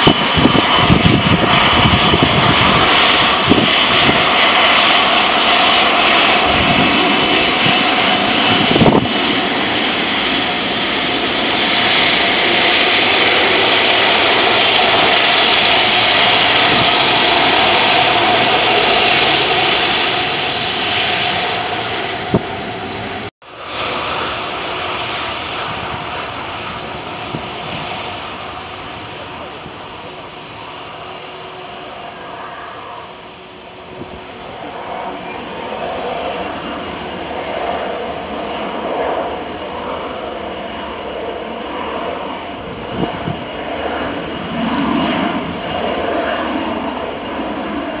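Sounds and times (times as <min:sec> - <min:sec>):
jet engines roaring: 0:00.0 - 0:48.0
wind buffeting the microphone: 0:00.0 - 0:48.0.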